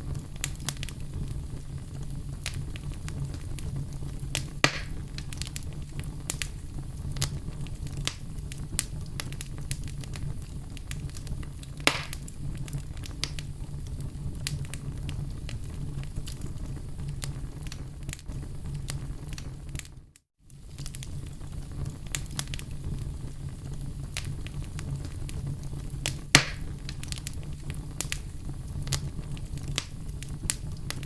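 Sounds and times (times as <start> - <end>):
wood fire burning: 0.0 - 31.0.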